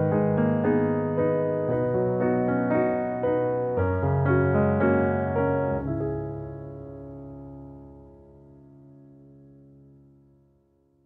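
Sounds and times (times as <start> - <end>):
slow piano chords: 0.0 - 10.9.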